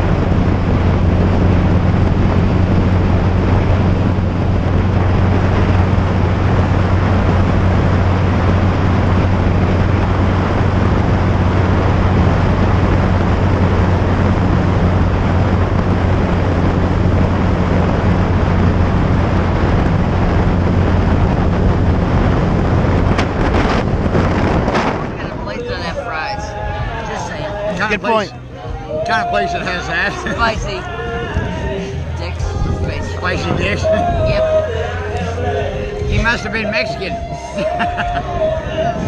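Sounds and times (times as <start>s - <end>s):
motorcycle engine cruising: 0.0s - 39.0s
wind rushing over microphone: 0.0s - 39.0s.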